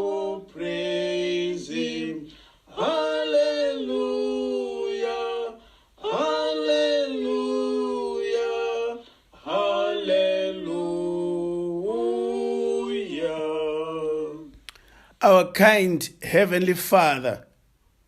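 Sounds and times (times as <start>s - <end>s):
man and woman singing hymn: 0.0s - 14.8s.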